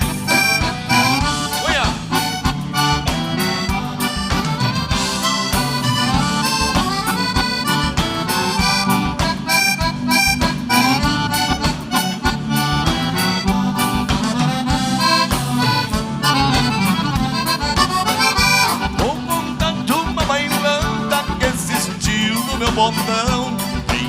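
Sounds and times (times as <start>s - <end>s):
bass line: 0.0s - 24.0s
button accordion melody: 0.0s - 24.0s.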